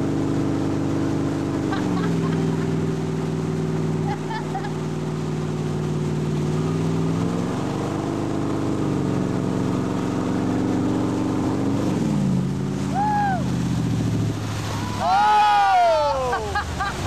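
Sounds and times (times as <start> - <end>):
motorboat engine running: 0.0 - 17.0
water noise: 0.0 - 17.0.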